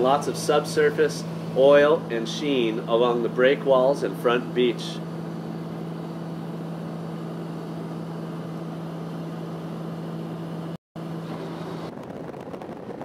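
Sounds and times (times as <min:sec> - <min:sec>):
small plane engine drone: 0:00.0 - 0:13.0.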